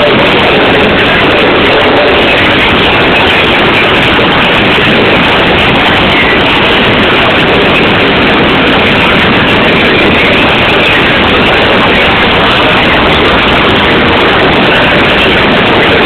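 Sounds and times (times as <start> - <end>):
train running noise from on board: 0.0 - 16.0.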